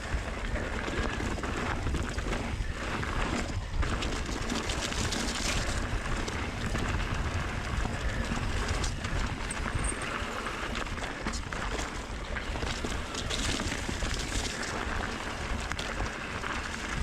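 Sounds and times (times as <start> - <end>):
bike tyres rolling over dirt: 0.0 - 17.0
bike rattling clicks: 0.1 - 17.0.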